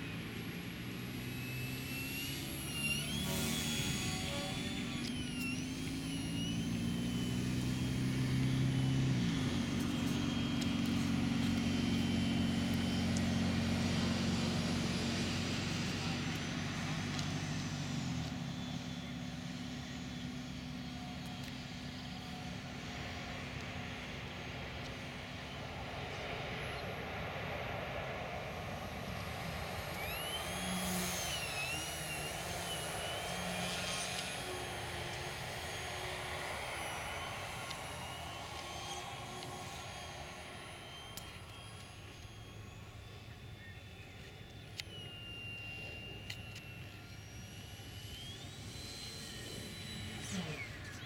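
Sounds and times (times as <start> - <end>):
model plane engine and propeller drone: 0.0 - 51.0.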